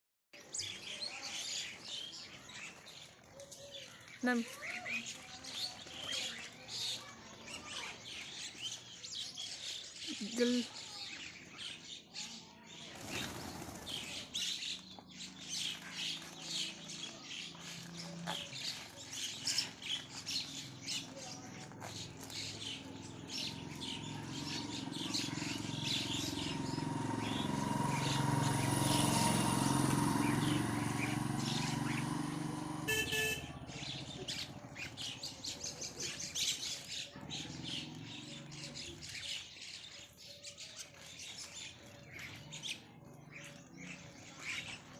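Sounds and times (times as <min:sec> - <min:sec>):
baby birds chirping: 0:00.5 - 0:44.9.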